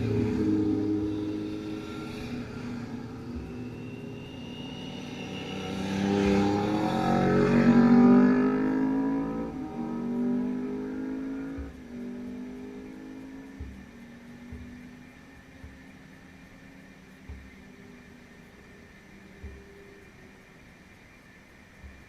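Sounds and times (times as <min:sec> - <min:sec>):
motorcycle engine: 0:00.0 - 0:20.2.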